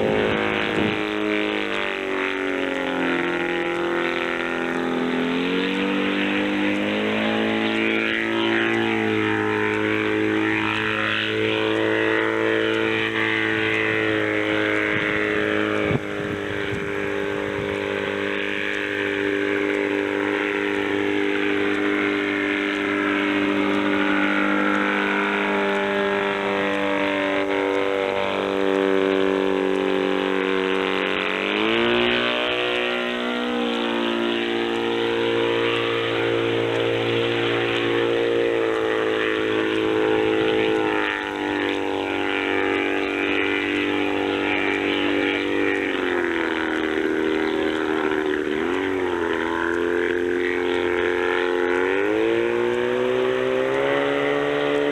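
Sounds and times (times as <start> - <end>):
autogyro engine buzzing in flight: 0.0 - 54.9.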